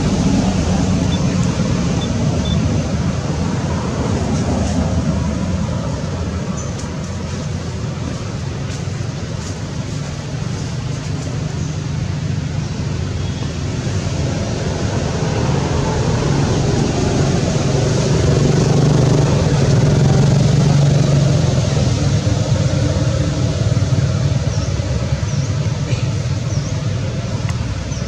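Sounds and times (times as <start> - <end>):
road noise: 0.0 - 28.0
vehicle engine hum: 0.0 - 28.0.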